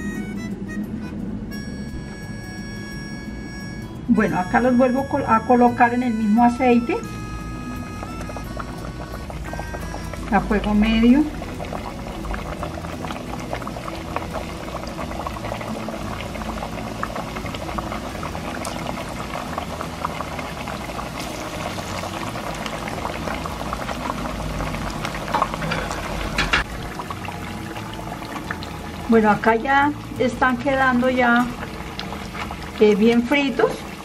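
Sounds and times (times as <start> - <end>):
plantains sizzling in hot oil: 2.2 - 34.0.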